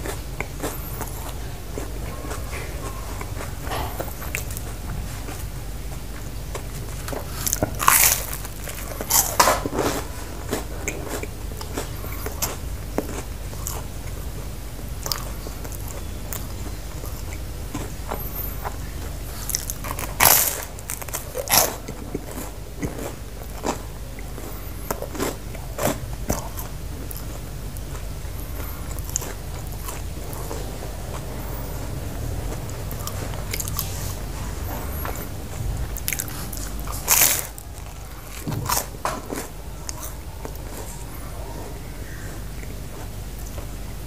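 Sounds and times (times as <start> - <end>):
crunchy bread chewing: 0.0 - 44.0.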